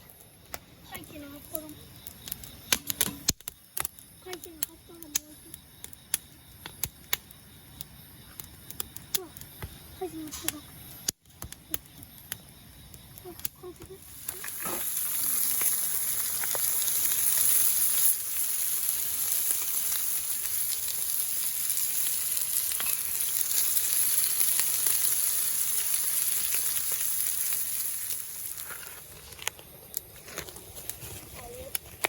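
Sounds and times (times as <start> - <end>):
leaves burning in campfire: 0.0 - 32.0
small fire crackles: 0.0 - 32.0.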